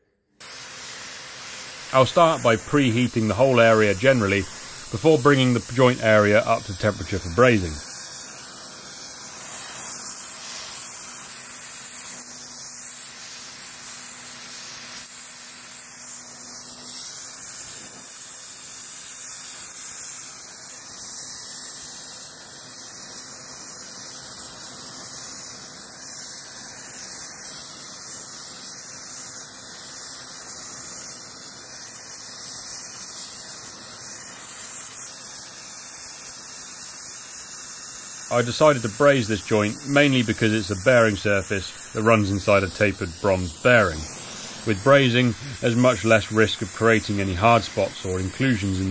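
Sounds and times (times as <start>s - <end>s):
gas torch flame hissing: 0.4s - 48.9s.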